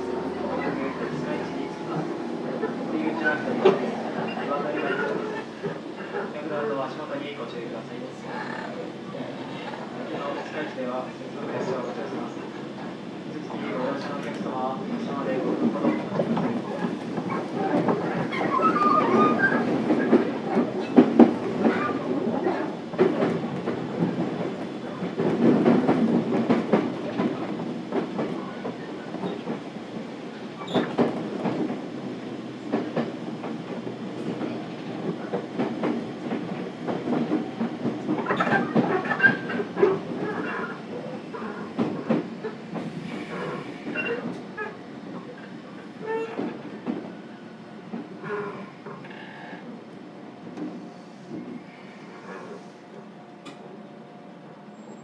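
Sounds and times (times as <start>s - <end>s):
train rumble under floor: 0.0s - 55.0s.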